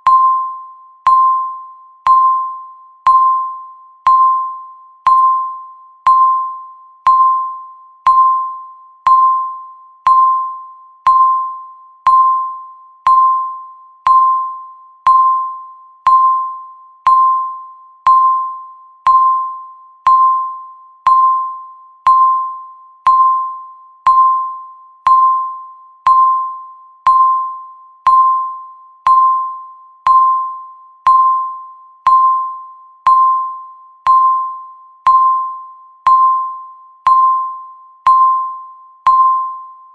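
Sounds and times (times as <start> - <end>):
electronic timer ticking: 0.0 - 39.6.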